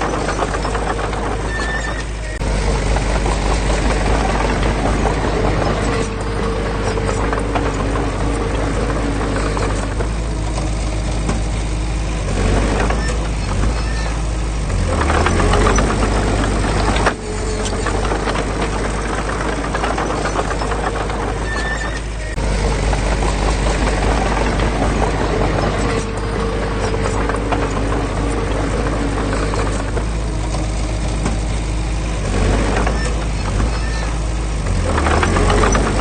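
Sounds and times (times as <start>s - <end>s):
heavy diesel engine rattling: 0.0s - 36.0s.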